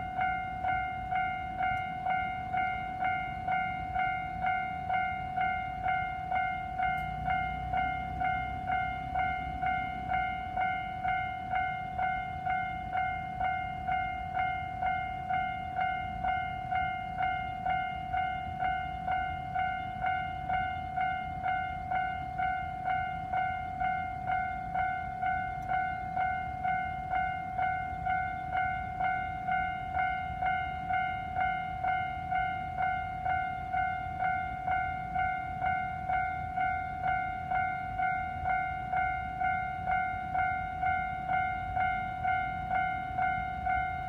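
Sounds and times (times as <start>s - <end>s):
level crossing warning bell: 0.0s - 44.0s.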